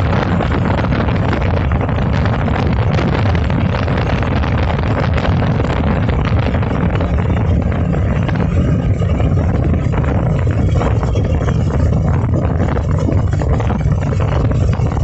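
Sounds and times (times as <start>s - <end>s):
motorboat engine drone: 0.0s - 15.0s.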